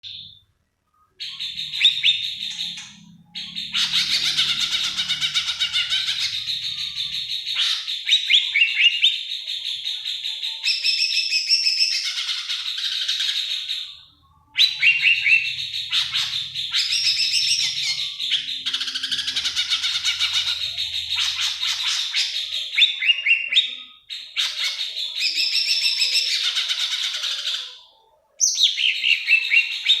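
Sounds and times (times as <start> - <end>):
songbird chirping and whistling: 0.0 - 30.0.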